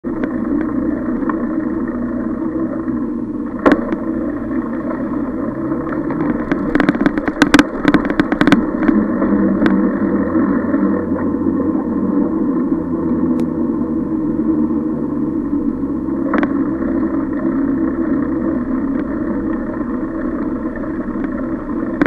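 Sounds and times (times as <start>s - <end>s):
rolling noise on paved path: 0.0s - 22.0s.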